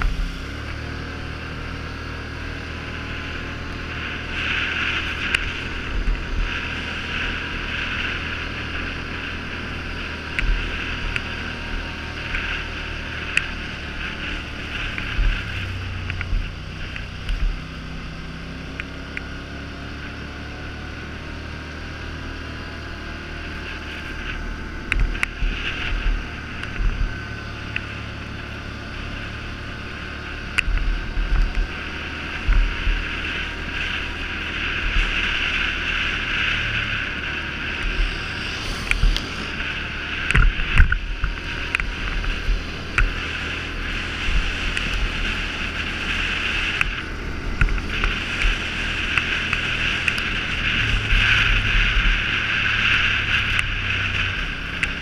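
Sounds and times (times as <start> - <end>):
gravel ticks: 0.0 - 20.3, 22.8 - 55.0
atv engine running: 0.0 - 55.0
wind buffeting microphone: 0.0 - 55.0.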